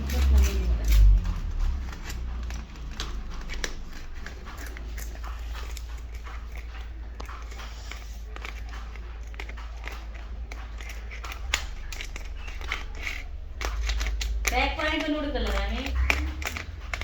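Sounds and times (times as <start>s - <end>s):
light clicks and taps: 0.0s - 17.0s
steady low hum: 0.0s - 17.0s.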